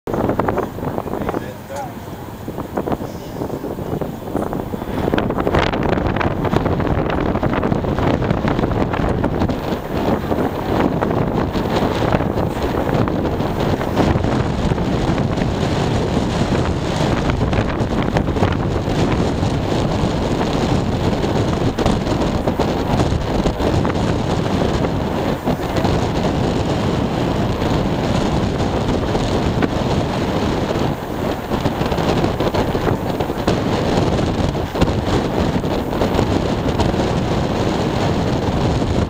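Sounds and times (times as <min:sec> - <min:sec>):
wind buffeting microphone: 0:00.1 - 0:39.0.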